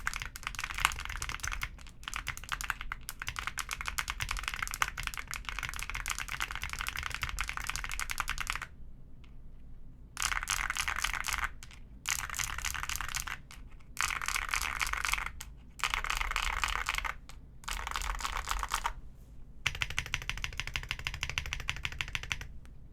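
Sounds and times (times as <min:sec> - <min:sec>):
fast mechanical keyboard typing: 0:00.0 - 0:08.7, 0:10.2 - 0:19.0, 0:19.7 - 0:22.5.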